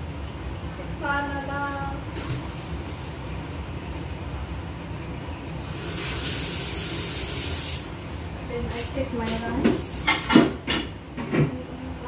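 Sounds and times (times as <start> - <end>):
low kitchen rumble: 0.0 - 12.0.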